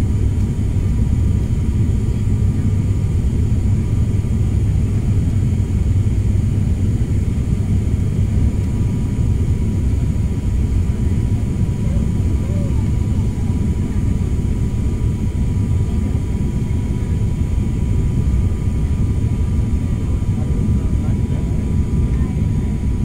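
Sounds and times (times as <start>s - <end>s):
aircraft cabin engine drone: 0.0s - 23.0s.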